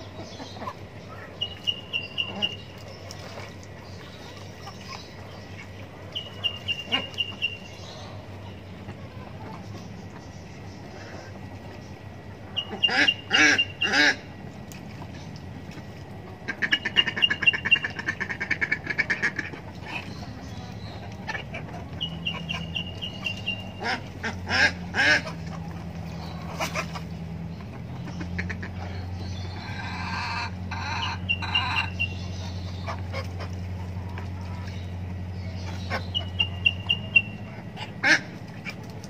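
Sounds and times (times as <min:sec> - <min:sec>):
ducks quacking: 0:00.0 - 0:39.0.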